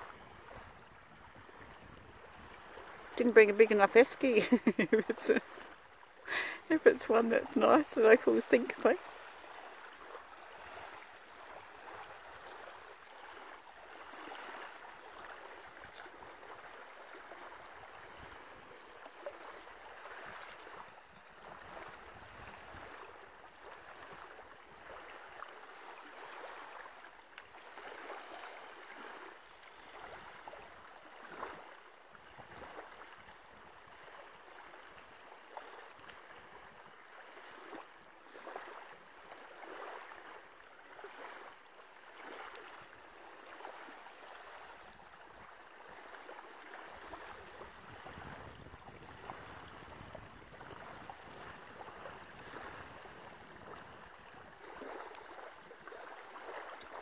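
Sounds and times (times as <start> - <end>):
small waves lapping on sand: 0.0 - 57.0.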